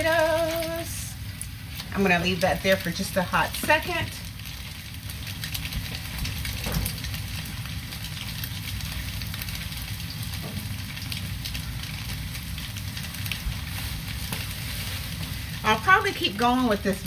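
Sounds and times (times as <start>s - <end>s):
potatoes sizzling in hot oil: 0.0s - 17.0s.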